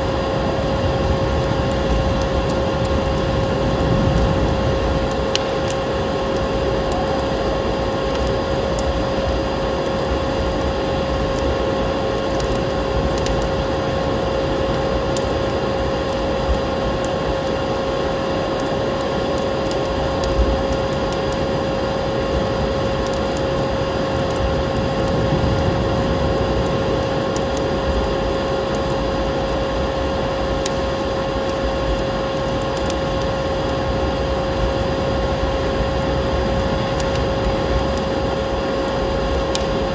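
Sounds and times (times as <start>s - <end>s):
low wind-like rumble: 0.0s - 39.9s
wood fire crackling: 0.0s - 39.9s.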